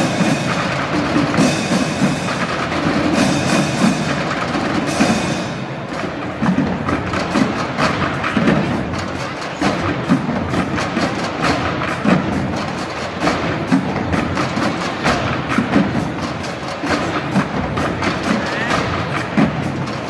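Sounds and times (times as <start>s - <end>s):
drumming on trash cans: 0.0s - 20.0s.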